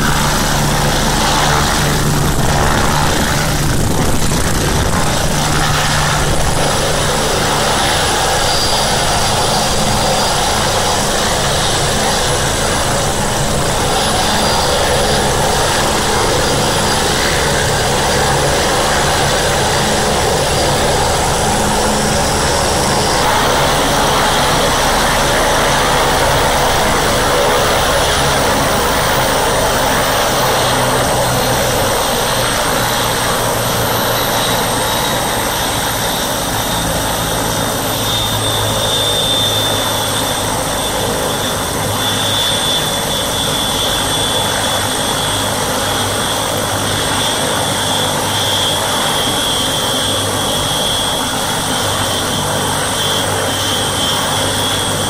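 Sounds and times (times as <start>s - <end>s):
helicopter rotor turning: 0.0s - 55.0s
high turbine whine: 0.0s - 55.0s.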